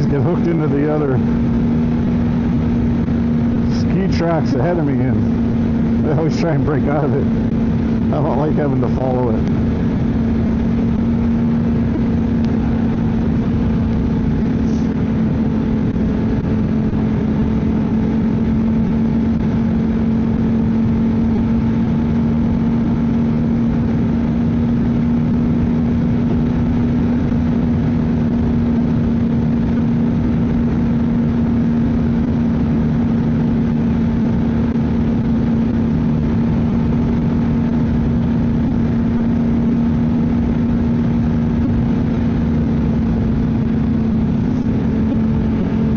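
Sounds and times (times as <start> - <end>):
snowmobile engine droning: 0.0 - 45.9.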